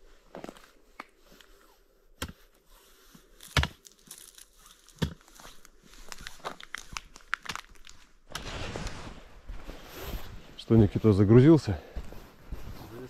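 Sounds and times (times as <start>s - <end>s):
crinkling and rustling: 0.1s - 11.2s.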